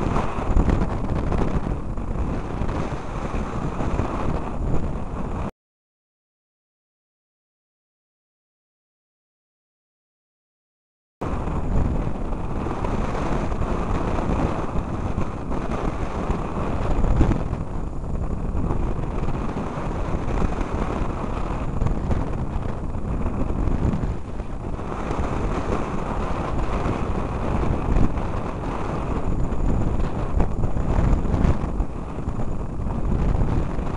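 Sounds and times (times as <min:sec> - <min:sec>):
wind buffeting microphone: 0:00.0 - 0:05.5, 0:11.2 - 0:33.9.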